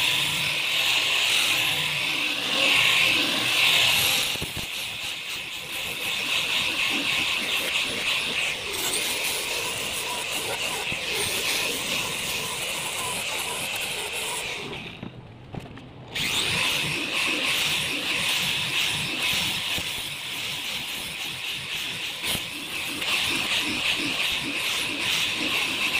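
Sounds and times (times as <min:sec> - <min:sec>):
angle grinder sanding wood: 0:00.0 - 0:15.1, 0:16.2 - 0:25.9.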